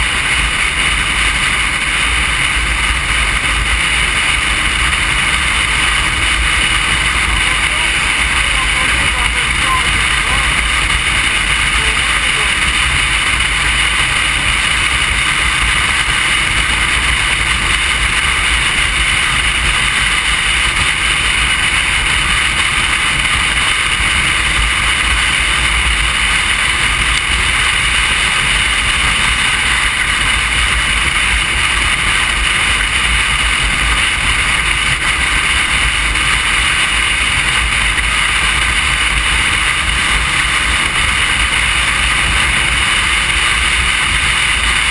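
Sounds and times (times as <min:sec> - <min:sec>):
motorcycle engine: 0:00.0 - 0:44.9
wind rush over microphone: 0:00.0 - 0:44.9.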